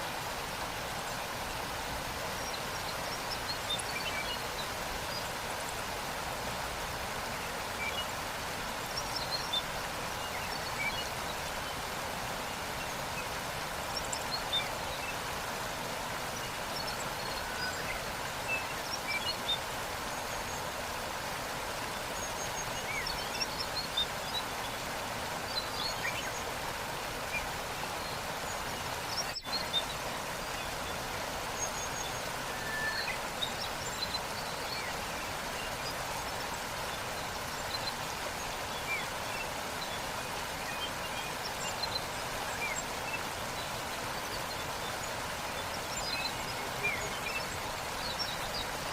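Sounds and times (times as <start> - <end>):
waterfall rushing: 0.0 - 48.9
small birds chirping: 1.0 - 48.9.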